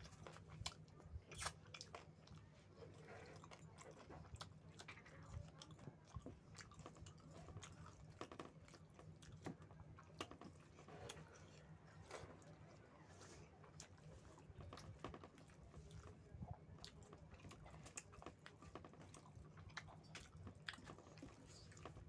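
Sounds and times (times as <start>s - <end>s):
chewing food: 0.0s - 22.0s.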